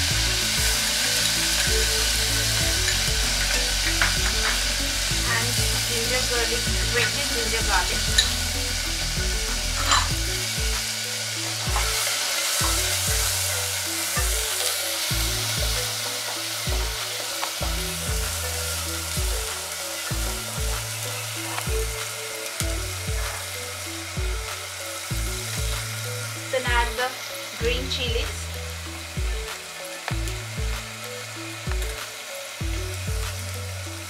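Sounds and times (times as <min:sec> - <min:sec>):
paste sizzling in hot oil: 0:00.0 - 0:34.0.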